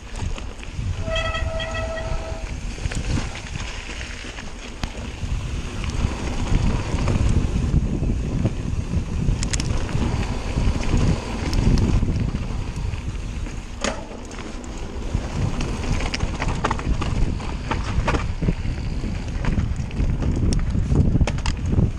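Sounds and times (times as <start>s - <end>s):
bike clicks and rattles: 0.0s - 21.9s
tyres rumbling on gravel: 0.0s - 21.9s
wind buffeting microphone: 0.0s - 21.9s.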